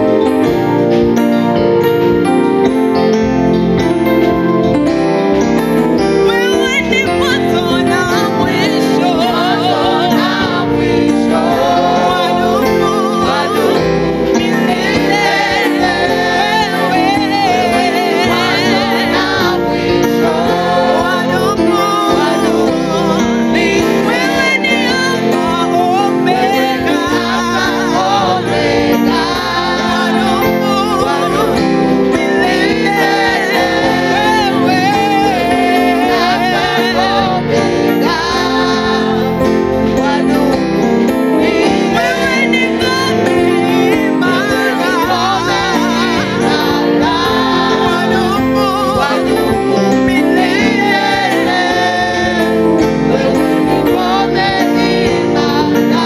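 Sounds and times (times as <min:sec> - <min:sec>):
instrumental accompaniment: 0:00.0 - 0:56.0
woman singing lead: 0:06.0 - 0:56.0
mixed choir singing: 0:07.5 - 0:56.0.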